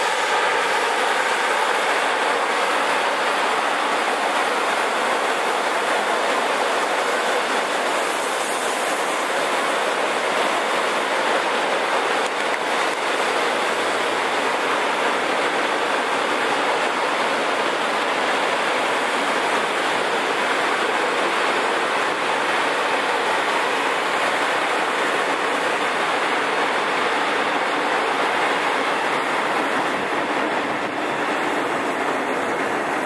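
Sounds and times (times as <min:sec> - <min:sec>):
freight train wheels rumbling on rails: 0:00.0 - 0:33.0.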